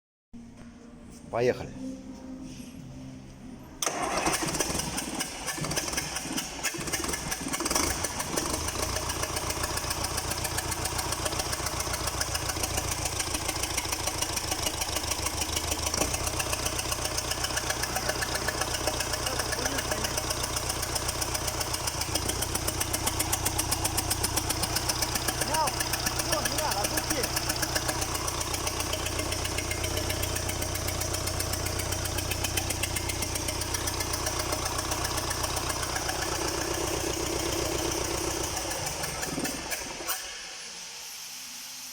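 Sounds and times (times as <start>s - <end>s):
diesel engine starting and idling: 3.7s - 41.4s.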